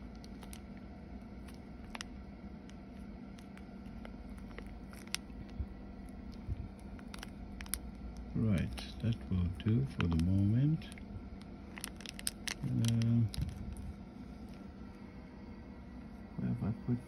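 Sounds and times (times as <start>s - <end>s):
plastic sachet crinkling: 0.0s - 15.0s
low hum: 0.0s - 17.0s.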